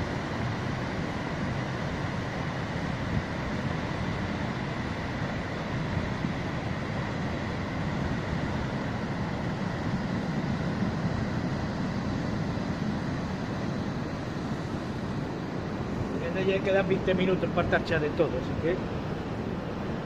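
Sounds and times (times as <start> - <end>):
sea water surging over shore: 0.0 - 20.0.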